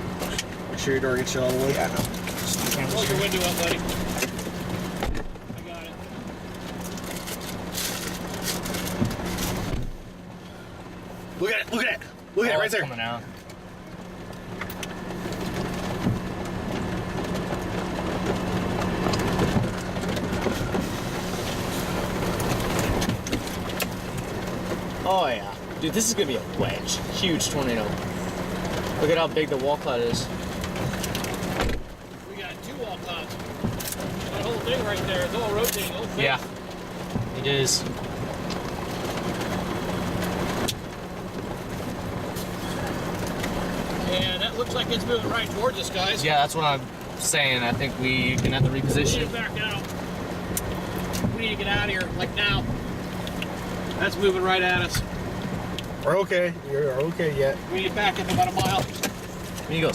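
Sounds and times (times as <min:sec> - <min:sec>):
engine hum: 0:00.0 - 0:59.9
rushing road noise: 0:00.0 - 0:59.9.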